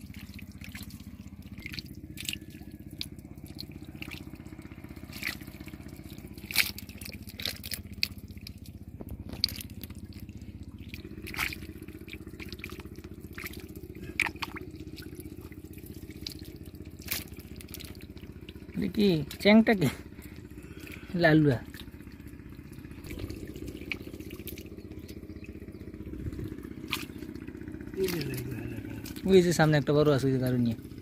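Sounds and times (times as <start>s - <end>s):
sharp wet smacks: 0.0s - 19.5s, 20.1s - 25.8s, 26.5s - 29.8s
mud and water squelching: 0.0s - 31.0s
steady low drone: 0.0s - 31.0s.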